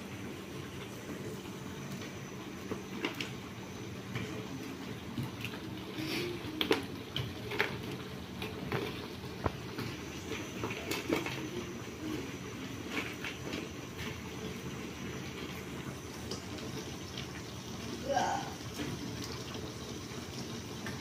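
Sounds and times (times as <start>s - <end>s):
gravy simmering with bubbling hiss: 0.0s - 21.0s.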